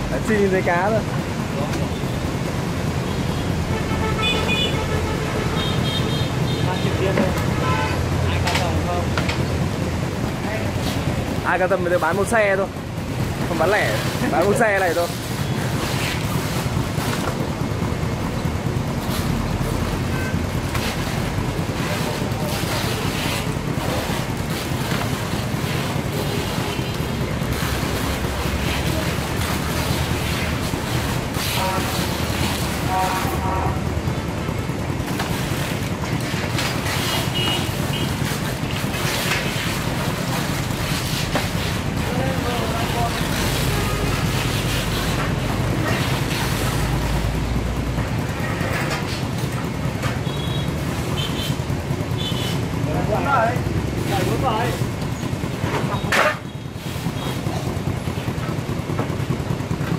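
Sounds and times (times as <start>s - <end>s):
street noise: 0.0s - 59.9s.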